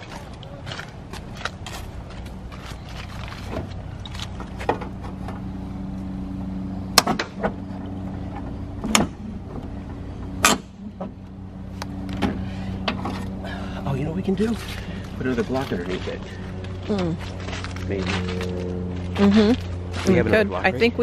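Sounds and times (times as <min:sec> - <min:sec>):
steady motor hum: 0:00.0 - 0:21.0.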